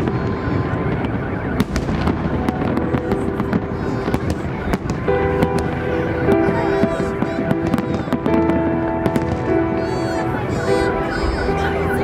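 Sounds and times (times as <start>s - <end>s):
fireworks bangs and crackles: 0.0s - 12.0s
steady multi-pitch tone: 0.0s - 12.0s.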